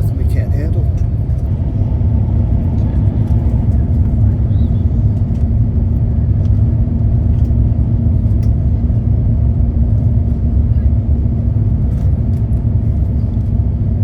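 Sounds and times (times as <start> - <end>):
aircraft cabin engine roar: 0.0 - 14.0
steady hum: 0.0 - 14.0.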